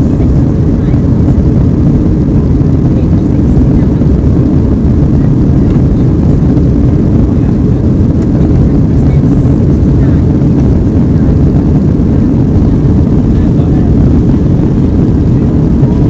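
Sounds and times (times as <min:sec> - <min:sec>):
jet airliner cabin roar: 0:00.0 - 0:16.0.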